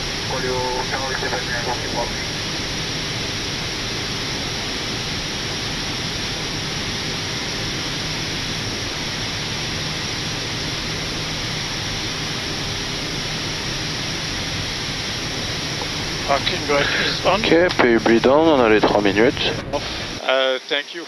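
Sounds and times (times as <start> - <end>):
faint low hum: 0.0 - 20.2
steady rushing noise: 0.0 - 20.2.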